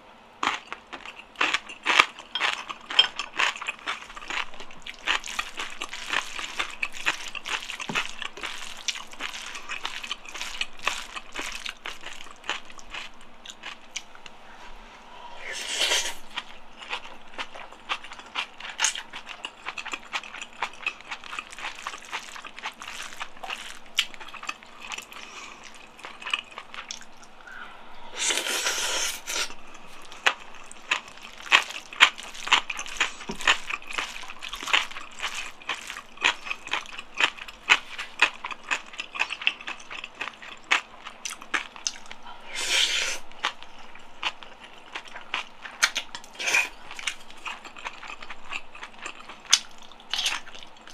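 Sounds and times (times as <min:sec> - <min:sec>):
wet chewing: 0:00.4 - 0:14.2, 0:15.6 - 0:27.4, 0:28.2 - 0:50.9.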